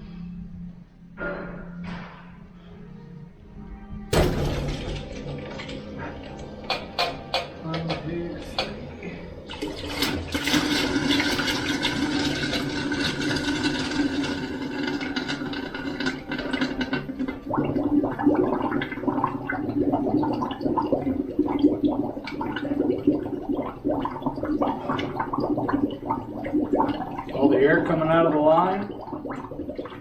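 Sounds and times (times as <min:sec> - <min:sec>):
water rushing and sputtering from pipe: 0:04.2 - 0:30.0.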